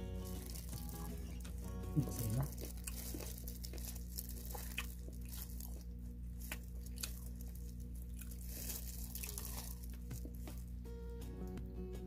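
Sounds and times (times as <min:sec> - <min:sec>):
crunchy food chewing: 0:00.0 - 0:10.8
steady low hum: 0:00.0 - 0:12.0.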